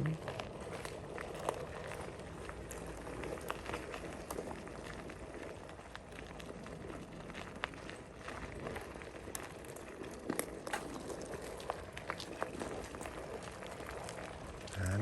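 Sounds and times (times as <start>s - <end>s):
bicycle tyre and wind noise: 0.0s - 15.0s
bike clicks and rattles: 0.4s - 5.1s, 5.8s - 14.6s.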